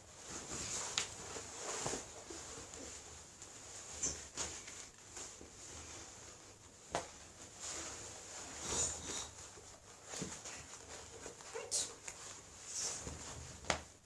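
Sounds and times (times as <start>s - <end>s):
clothing rustling: 0.0s - 14.0s.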